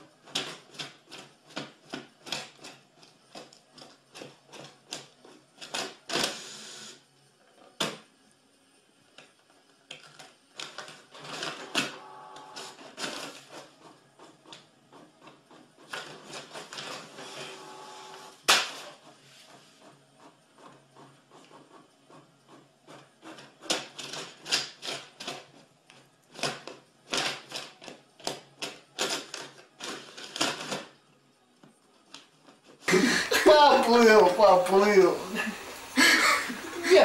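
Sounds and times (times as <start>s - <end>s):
printer paper feed whirring: 0.0s - 8.0s, 10.5s - 37.0s.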